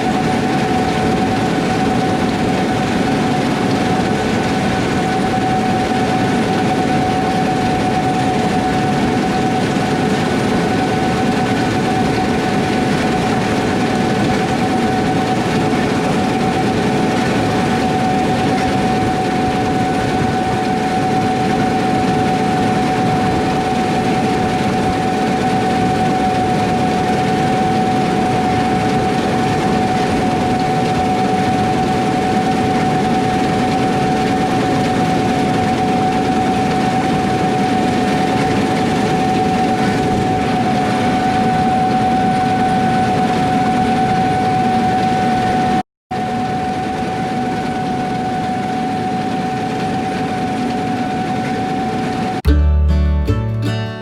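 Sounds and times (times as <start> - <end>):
high mechanical whine: 0.0 - 52.6
combine harvester rumbling: 0.0 - 54.0.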